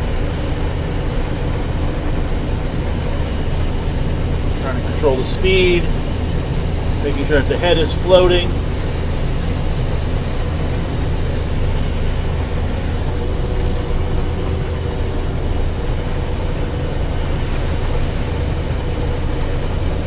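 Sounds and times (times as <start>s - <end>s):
combine harvester engine hum: 0.0s - 20.0s.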